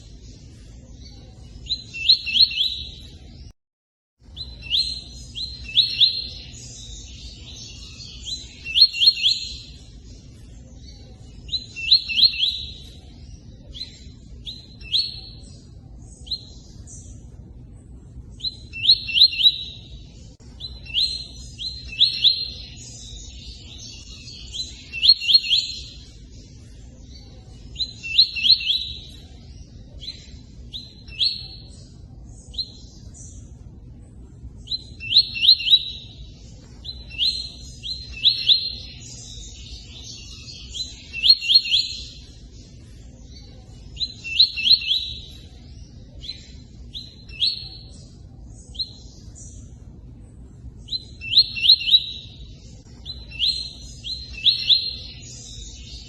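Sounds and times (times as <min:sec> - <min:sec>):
bird chirping song: 0:00.0 - 0:03.6, 0:04.2 - 0:56.0.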